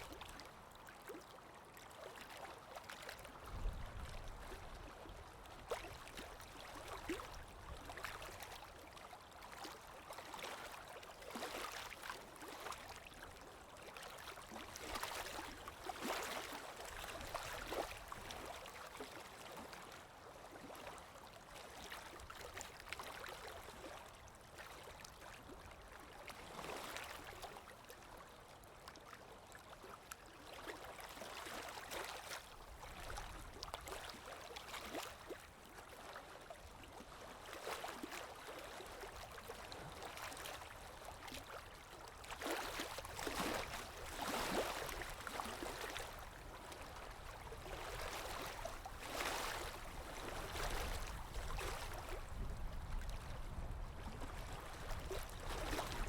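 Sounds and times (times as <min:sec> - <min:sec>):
water lapping: 0:00.0 - 0:28.0, 0:28.8 - 0:56.0
wind: 0:00.0 - 0:56.0.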